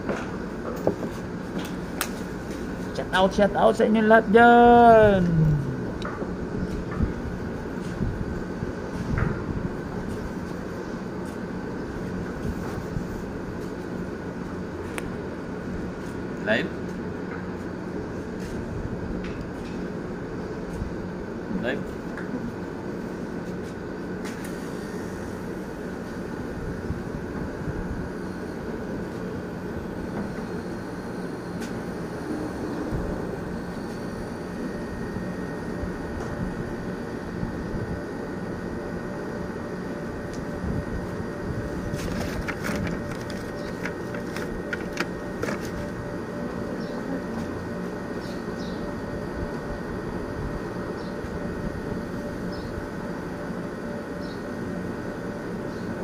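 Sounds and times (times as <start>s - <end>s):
mechanical hum and rumble: 0.0s - 56.0s.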